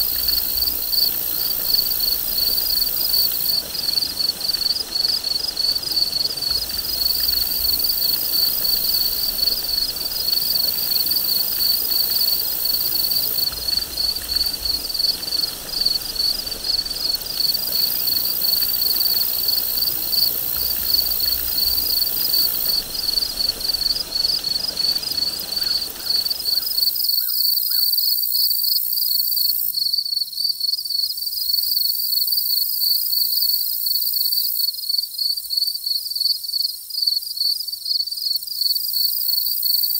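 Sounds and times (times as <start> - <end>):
high insect hiss: 0.0 - 39.9
insect chorus trilling: 0.0 - 39.9.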